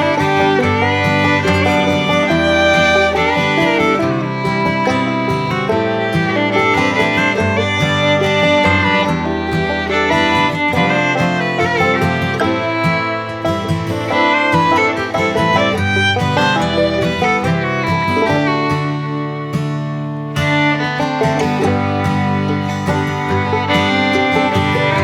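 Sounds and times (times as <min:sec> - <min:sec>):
instrumental background music: 0:00.0 - 0:25.0.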